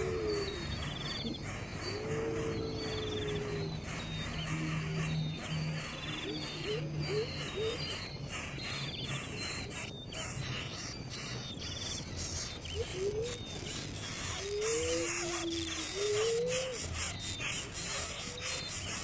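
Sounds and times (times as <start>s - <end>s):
insects chirring in trills: 0.0s - 19.0s.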